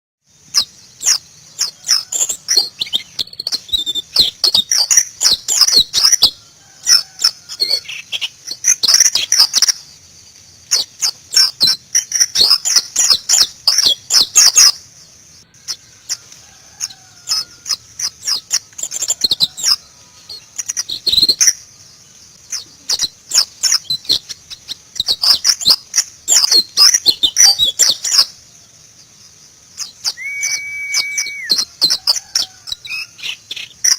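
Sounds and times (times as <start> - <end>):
bird twittering: 0.4 - 14.8, 15.4 - 33.9.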